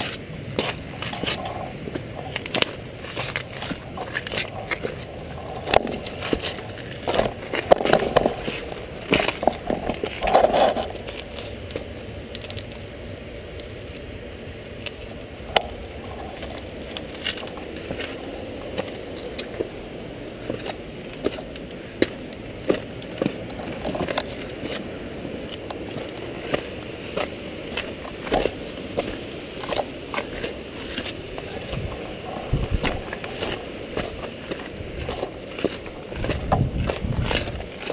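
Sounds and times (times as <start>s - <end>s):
bicycle tyres crunching on gravel: 0.0s - 37.9s
bike clicking over rocks: 0.0s - 37.9s.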